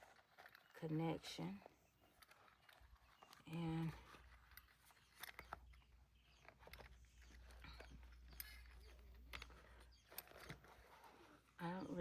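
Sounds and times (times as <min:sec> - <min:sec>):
faint rustles: 0:00.0 - 0:12.0.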